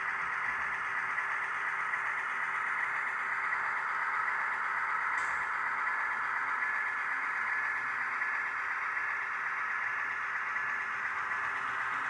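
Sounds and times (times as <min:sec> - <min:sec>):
model locomotive motor whirring: 0:00.0 - 0:12.0.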